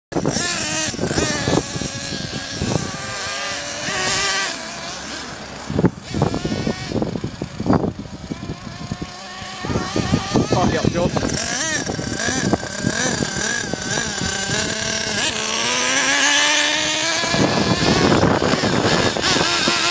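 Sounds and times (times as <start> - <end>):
nitro engine high-pitched whine: 0.1 - 19.9
wind rumbling on microphone: 0.1 - 19.9.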